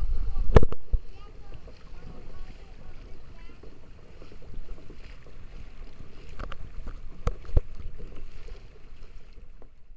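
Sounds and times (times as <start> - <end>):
water splashing along kayak hull: 0.0 - 9.9
wind buffeting microphone: 0.0 - 9.9.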